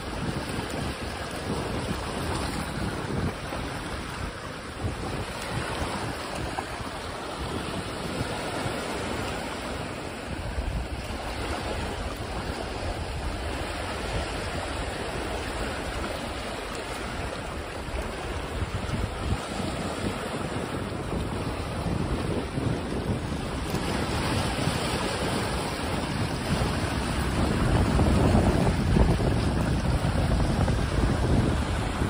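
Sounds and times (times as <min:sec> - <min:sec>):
waves washing on sandy shore: 0:00.0 - 0:32.0
wind buffeting microphone: 0:00.0 - 0:32.0.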